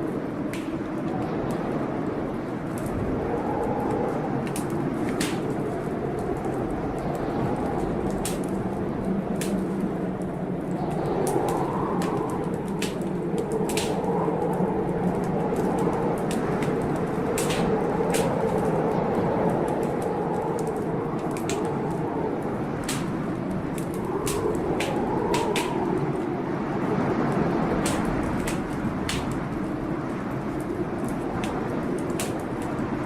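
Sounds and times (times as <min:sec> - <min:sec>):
howling blizzard wind: 0:00.0 - 0:33.0
wood fire crackling: 0:00.0 - 0:33.0.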